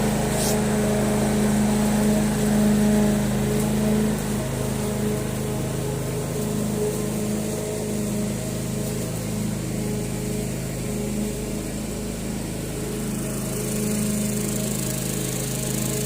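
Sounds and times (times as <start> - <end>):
lawn mower running: 0.0 - 16.0.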